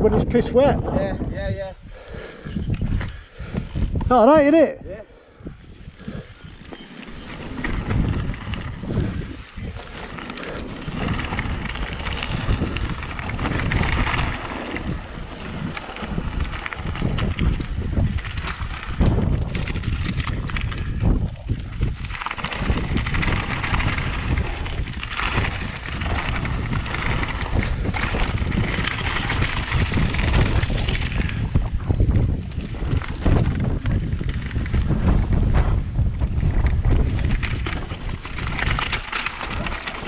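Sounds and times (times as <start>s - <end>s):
wind buffeting microphone: 0.0s - 40.0s
bike tyres crunching on gravel: 5.7s - 40.0s.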